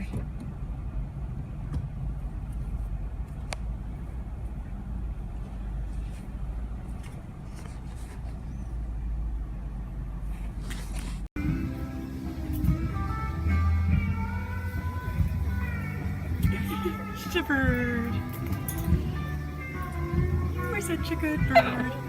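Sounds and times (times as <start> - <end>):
car engine rumble inside cabin: 0.0 - 22.0.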